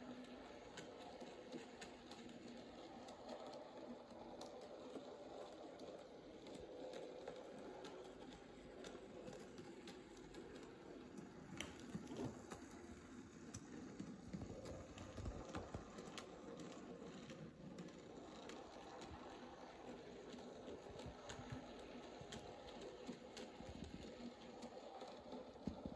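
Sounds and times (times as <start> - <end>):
model train wheels clicking on rail: 0.0 - 25.9.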